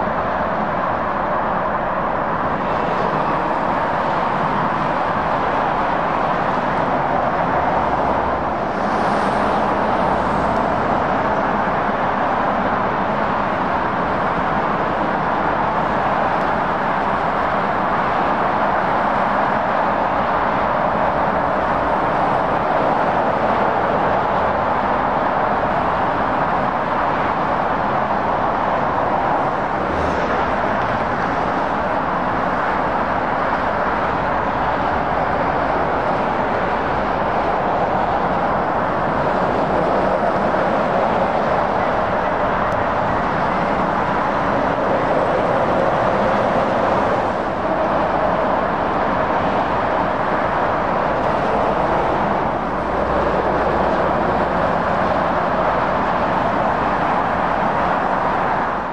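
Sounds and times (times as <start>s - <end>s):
motorway traffic roar: 0.0s - 58.9s.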